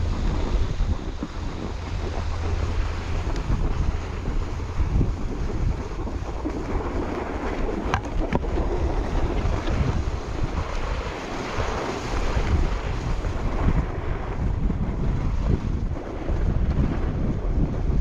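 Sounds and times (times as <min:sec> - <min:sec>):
snowboard edge scraping snow: 0:00.0 - 0:18.0
wind buffeting microphone: 0:00.0 - 0:18.0.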